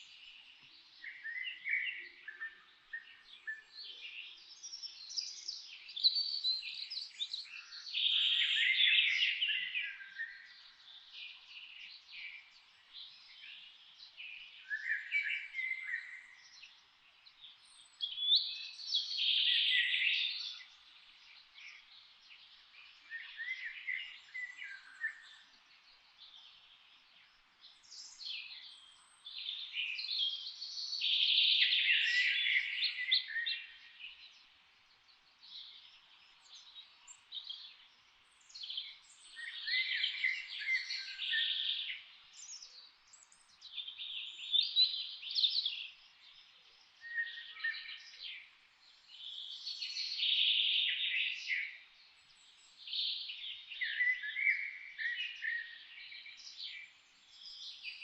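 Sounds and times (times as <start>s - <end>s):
faint bird chirps: 0.0s - 58.0s
songbirds singing: 0.0s - 58.0s.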